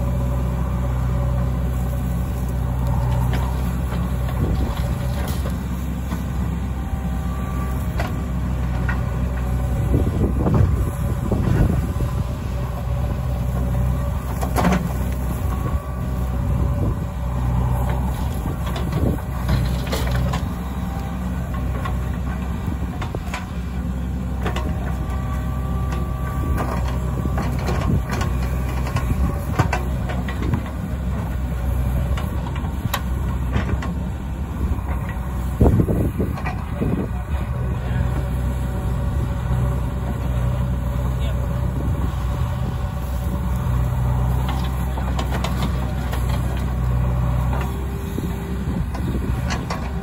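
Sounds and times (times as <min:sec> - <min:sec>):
diesel engine under load: 0:00.0 - 0:50.0
hydraulic whine: 0:00.0 - 0:50.0.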